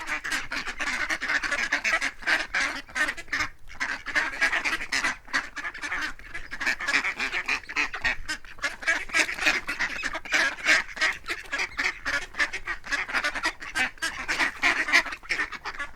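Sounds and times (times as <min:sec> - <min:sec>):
ducks quacking: 0:00.0 - 0:15.9.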